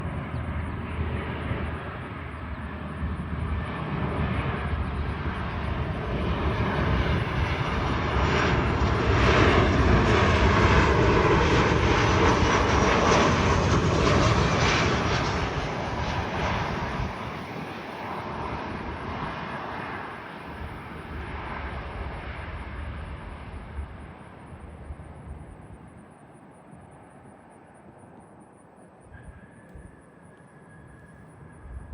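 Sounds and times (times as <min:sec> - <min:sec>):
jet airliner flying past: 0:00.0 - 0:31.9.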